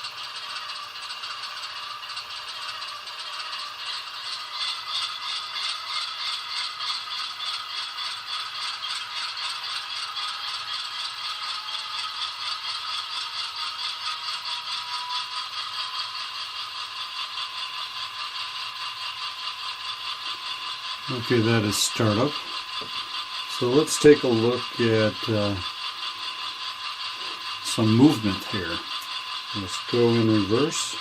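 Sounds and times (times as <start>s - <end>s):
model train engine sound from speaker: 0.0s - 31.0s.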